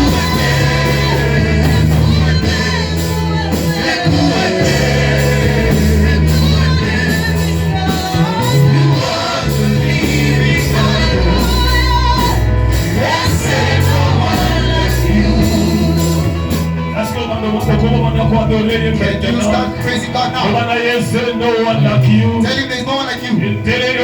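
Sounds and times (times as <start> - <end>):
gospel band playing: 0.0 - 24.0
loud singing: 0.0 - 24.0.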